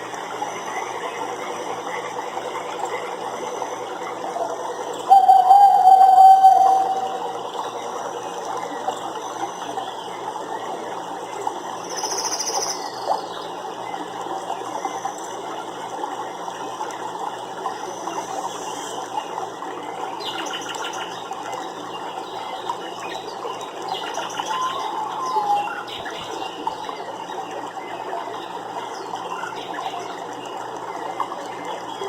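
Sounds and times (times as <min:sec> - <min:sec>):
crackly background hiss: 0:00.0 - 0:32.0.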